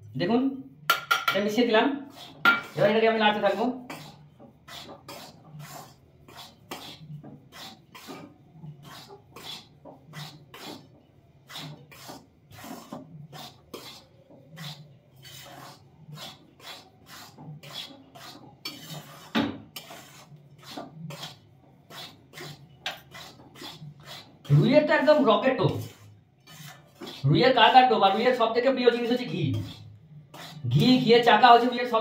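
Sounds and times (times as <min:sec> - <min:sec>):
metal spatula scraping wok: 0:02.0 - 0:32.0.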